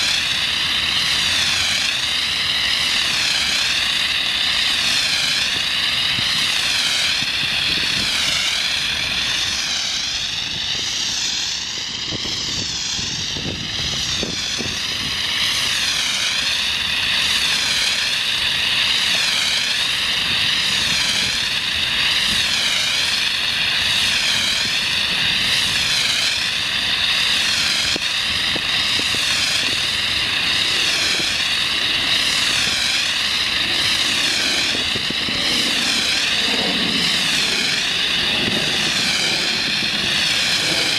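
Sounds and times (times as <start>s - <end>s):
foam spraying from hose nozzle: 0.0s - 40.9s.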